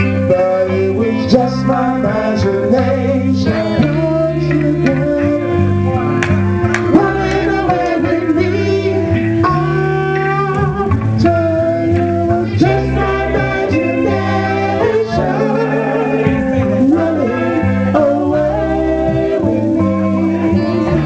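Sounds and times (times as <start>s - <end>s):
bass guitar: 0.0s - 21.0s
electric guitars: 0.0s - 21.0s
people singing: 0.0s - 21.0s.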